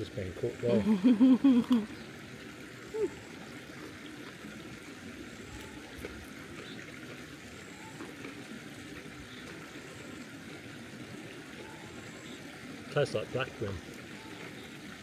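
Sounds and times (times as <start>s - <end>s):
running water trickling: 0.0s - 15.0s.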